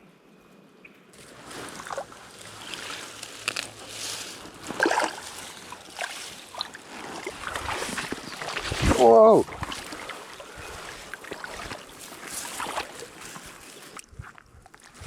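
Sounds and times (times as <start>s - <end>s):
water splashing: 1.2s - 14.1s
legs wading through water: 1.2s - 15.0s.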